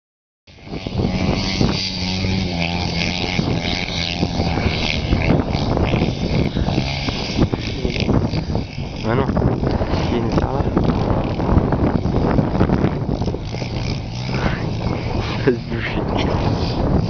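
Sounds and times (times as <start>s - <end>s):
dirt bike engine revving: 0.5s - 17.0s.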